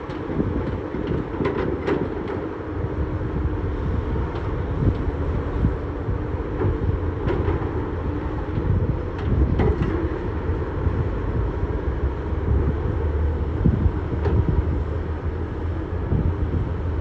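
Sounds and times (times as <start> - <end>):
heavy diesel machinery rumbling: 0.0 - 17.0.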